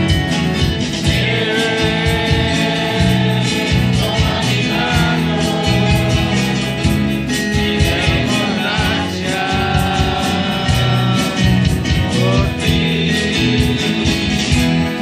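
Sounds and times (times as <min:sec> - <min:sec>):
strummed acoustic guitar: 0:00.0 - 0:15.0
voices singing a hymn: 0:00.0 - 0:15.0.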